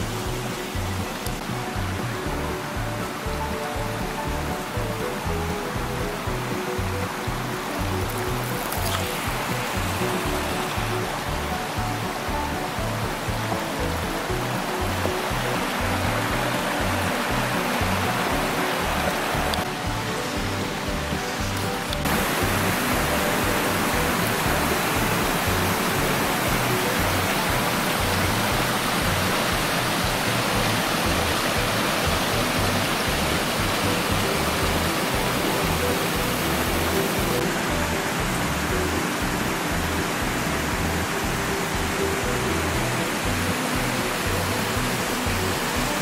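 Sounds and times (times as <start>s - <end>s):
steady rushing noise: 0.0s - 46.0s.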